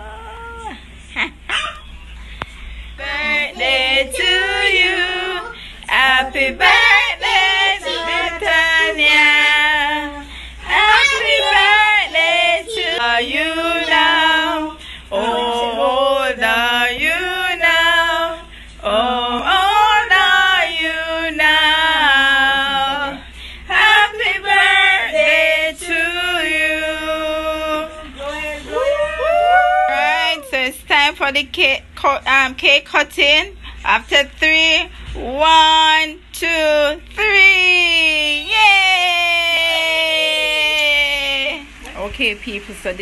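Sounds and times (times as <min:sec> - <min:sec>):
group singing birthday song: 0:02.0 - 0:43.0.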